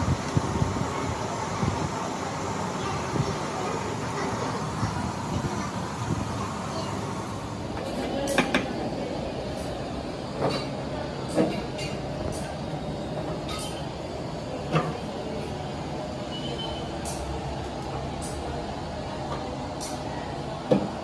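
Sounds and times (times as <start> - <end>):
workshop background noise: 0.0 - 21.0.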